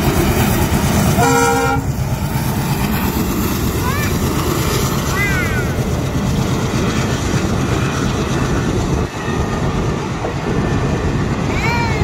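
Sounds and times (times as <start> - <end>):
passenger train rumbling on rails: 0.0 - 12.0.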